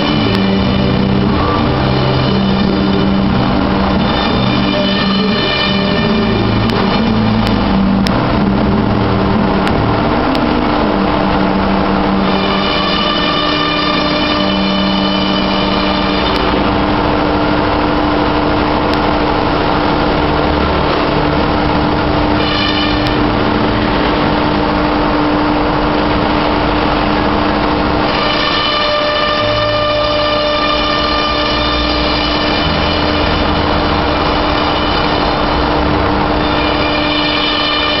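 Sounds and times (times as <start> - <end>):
high whine: 0.0 - 38.0.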